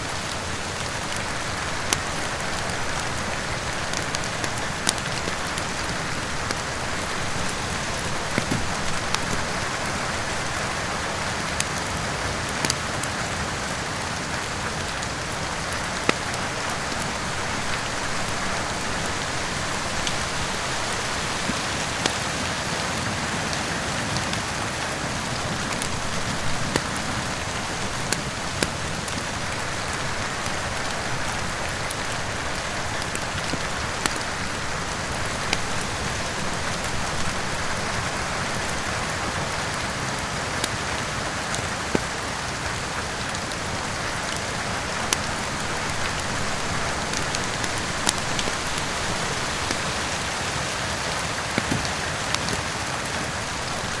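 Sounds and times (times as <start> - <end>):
heavy rain: 0.0 - 54.0
wood fire crackling and popping: 0.0 - 54.0.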